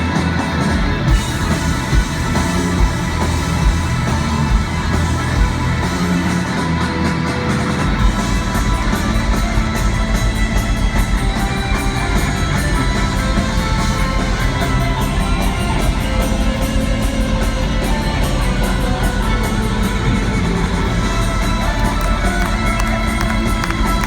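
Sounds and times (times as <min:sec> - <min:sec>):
distorted electric guitars: 0:00.0 - 0:24.0
steady drum beat: 0:00.0 - 0:24.0.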